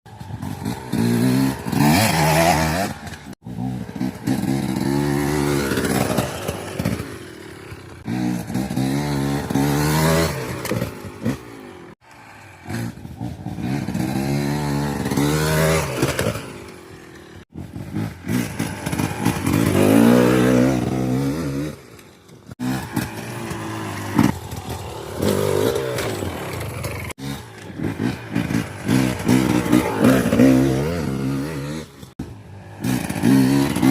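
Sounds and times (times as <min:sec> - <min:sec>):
two-stroke engine revving: 0:00.1 - 0:33.9.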